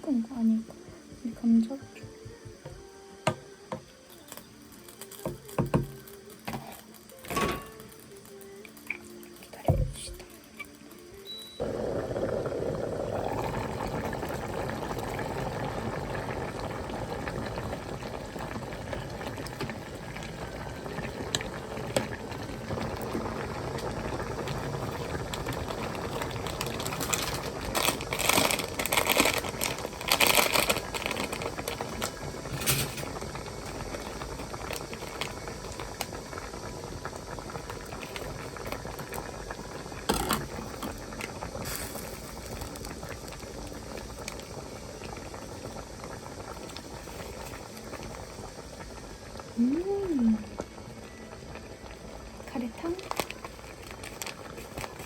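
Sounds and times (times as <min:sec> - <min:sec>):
pot of vegetables boiling: 0:00.0 - 0:55.0.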